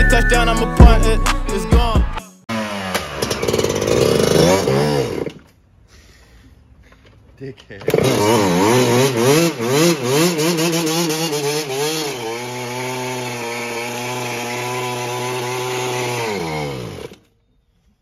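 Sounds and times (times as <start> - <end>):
dirt bike engine revving: 0.5 - 5.5, 7.8 - 17.2.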